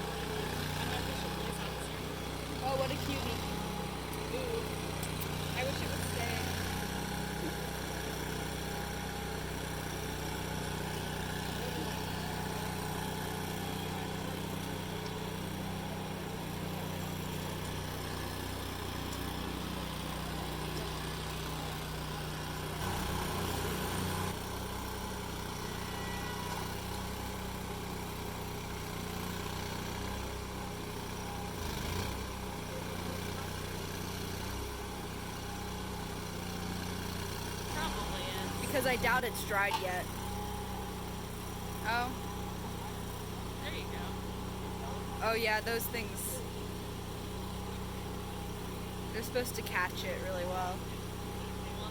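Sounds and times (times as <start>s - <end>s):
small engine humming: 0.0s - 51.9s.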